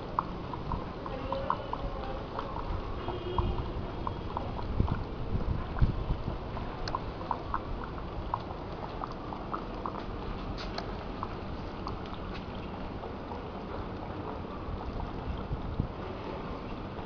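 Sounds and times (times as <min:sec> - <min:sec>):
small water plops: 0:00.0 - 0:17.0
water trickling and dripping: 0:00.0 - 0:17.0.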